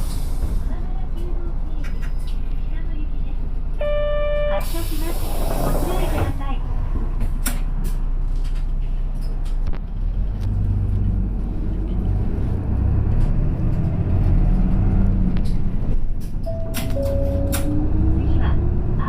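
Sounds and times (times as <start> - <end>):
bus diesel engine and road noise: 0.0 - 19.0.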